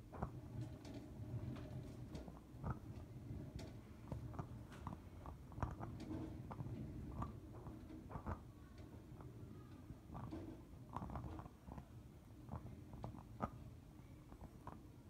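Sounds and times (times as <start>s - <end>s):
crackling and popping clicks: 0.1s - 15.0s.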